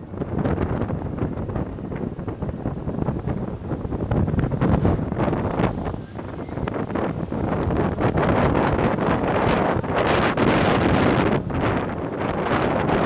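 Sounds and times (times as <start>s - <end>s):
wind buffeting: 0.0s - 13.0s.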